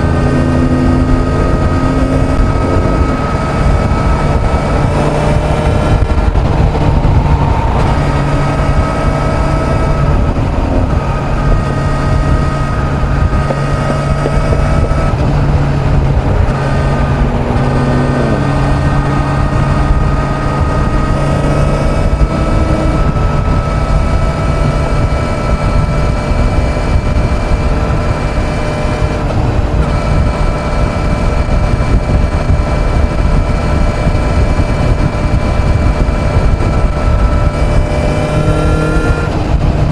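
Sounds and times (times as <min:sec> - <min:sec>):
motorcycle engine running steadily: 0:00.0 - 0:39.9
wind rush over microphone: 0:00.0 - 0:39.9.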